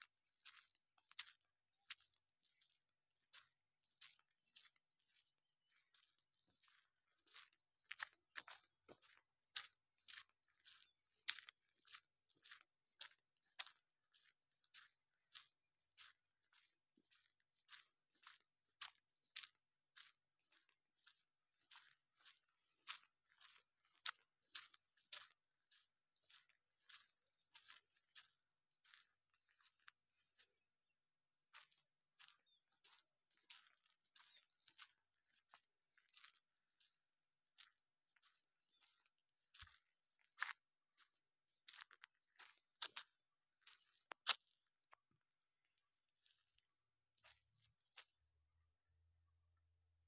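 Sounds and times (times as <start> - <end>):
footsteps on dry dirt: 0.0 - 50.0.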